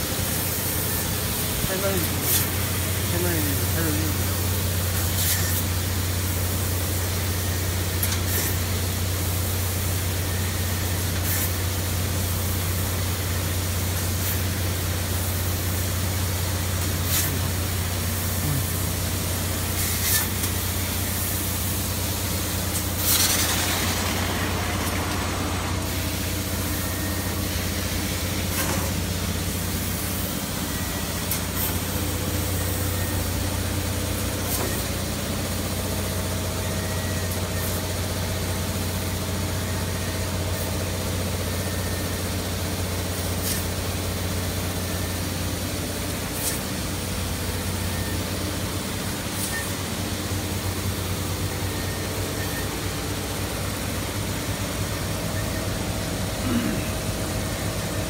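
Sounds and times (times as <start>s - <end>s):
laser cutter hum and hiss: 0.0s - 58.0s.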